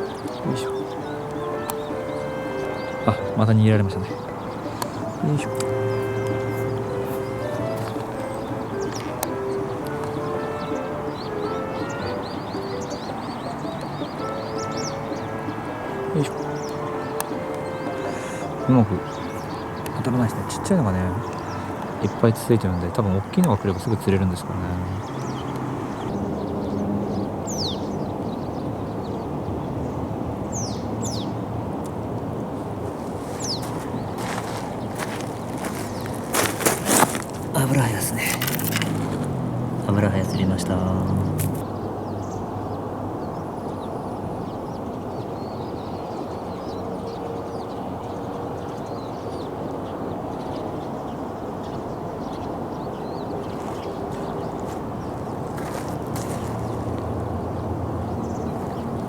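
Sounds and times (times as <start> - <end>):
high downward-sliding bird calls: 0.0 - 31.4, 32.6 - 59.0
flowing river water: 0.0 - 59.0.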